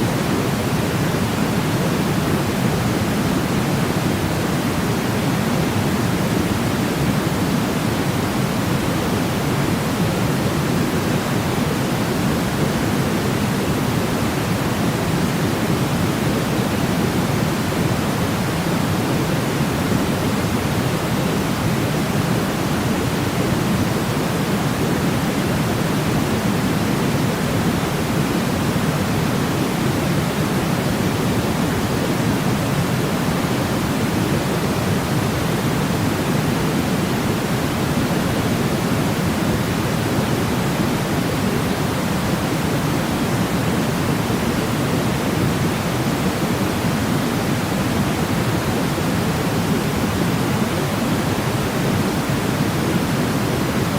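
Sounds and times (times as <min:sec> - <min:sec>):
low white noise hiss: 0:00.0 - 0:53.9.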